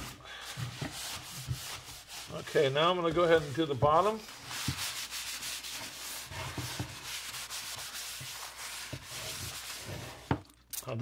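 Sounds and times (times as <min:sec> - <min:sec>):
rag wiping wood: 0:00.0 - 0:10.4.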